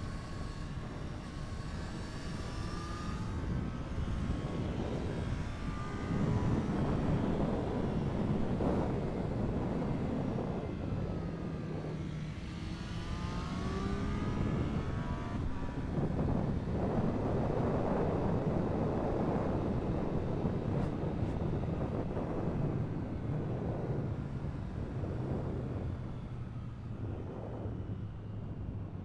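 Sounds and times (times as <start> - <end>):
wind noise: 0.0 - 29.0.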